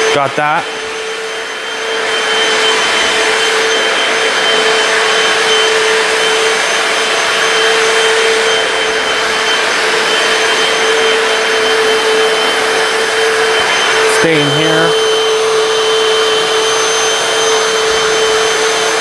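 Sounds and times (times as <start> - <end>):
floor cleaner motor whine: 0.0 - 19.0
rushing airflow: 1.3 - 19.0.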